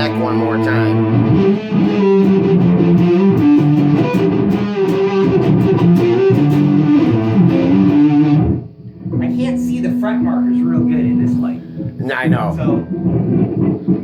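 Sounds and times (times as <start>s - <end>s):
electric guitar lead line: 0.0s - 14.0s.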